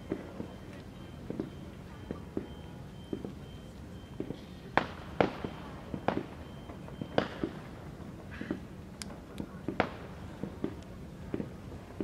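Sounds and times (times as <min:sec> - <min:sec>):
distant fireworks bangs and pops: 0:00.0 - 0:12.0.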